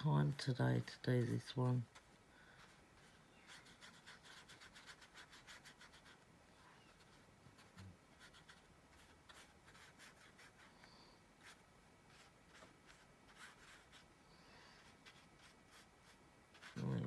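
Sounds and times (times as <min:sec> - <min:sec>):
paintbrush strokes on paper: 0:00.0 - 0:17.0.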